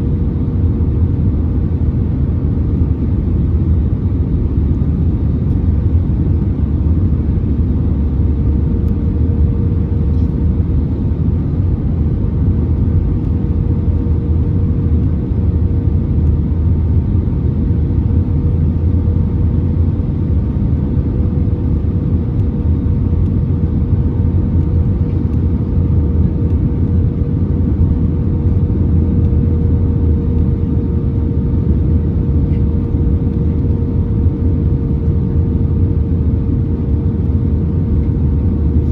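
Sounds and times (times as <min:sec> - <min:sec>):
aircraft cabin engine rumble: 0:00.0 - 0:38.9
constant hum: 0:00.0 - 0:38.9.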